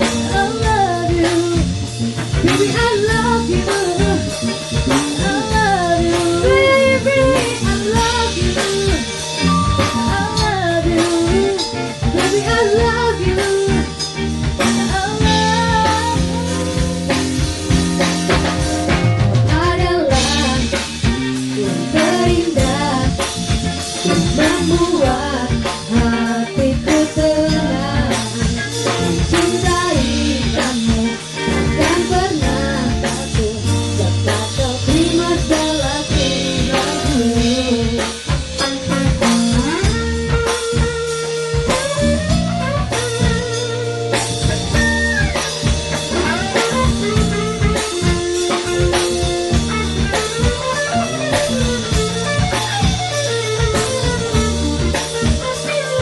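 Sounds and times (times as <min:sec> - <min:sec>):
woman singing into a microphone: 0:00.0 - 0:17.7, 0:19.4 - 0:56.0
drum kit: 0:00.0 - 0:56.0
electric guitar: 0:00.0 - 0:56.0.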